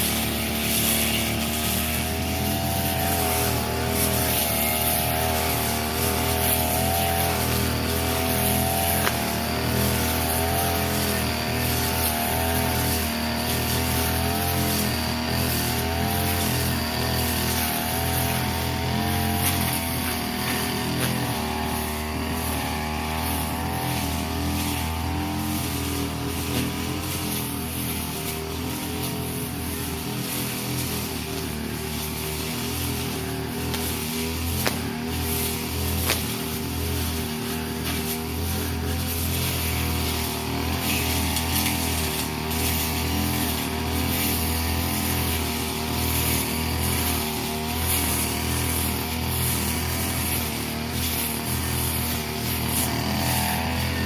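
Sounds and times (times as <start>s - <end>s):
brush cutter cutting grass: 0.0s - 54.0s.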